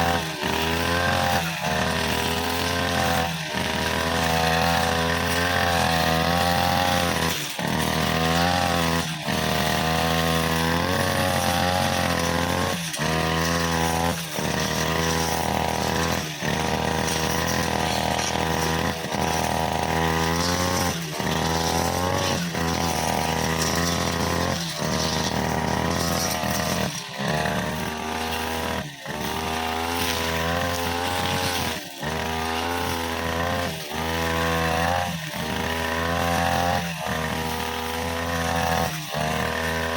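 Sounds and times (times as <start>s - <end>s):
brushcutter cutting grass: 0.0s - 39.9s.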